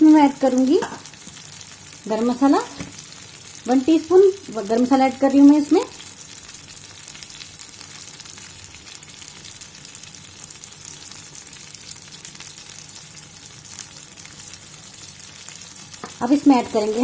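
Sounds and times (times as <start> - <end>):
curry simmering with crackles: 0.0 - 17.0.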